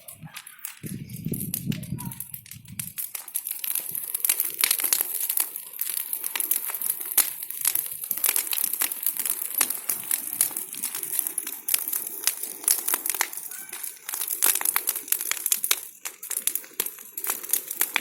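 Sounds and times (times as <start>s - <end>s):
bonfire crackling: 0.0s - 18.0s.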